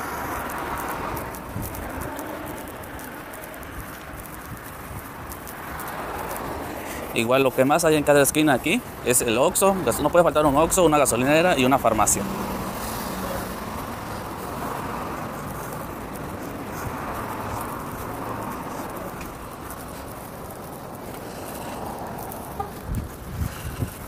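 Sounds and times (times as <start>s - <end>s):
street traffic hiss: 0.0s - 24.0s.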